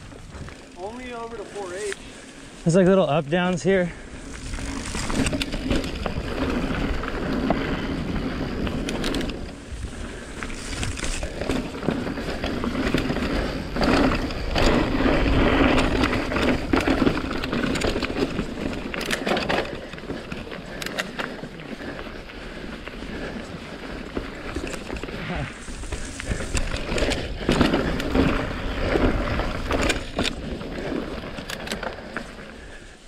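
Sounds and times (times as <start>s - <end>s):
bike rattling over bumps: 0.0s - 33.0s
bike tyres rumbling on dirt: 0.0s - 33.0s.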